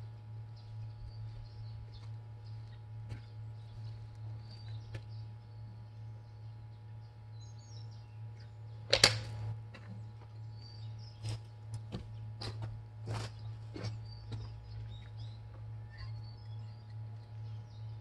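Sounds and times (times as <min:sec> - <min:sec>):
low hum: 0:00.0 - 0:18.0
small birds chirping: 0:00.4 - 0:09.0, 0:09.8 - 0:18.0.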